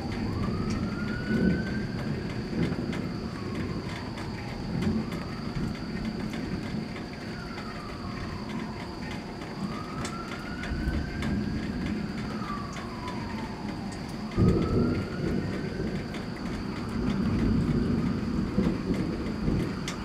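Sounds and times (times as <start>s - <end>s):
low storm rumble: 0.0s - 20.0s
siren wailing: 0.0s - 20.0s
thunder clap: 0.0s - 20.0s.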